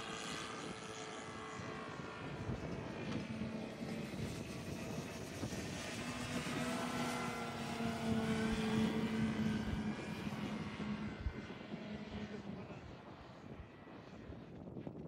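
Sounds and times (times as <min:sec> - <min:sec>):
model plane engine drone: 0:00.0 - 0:15.0.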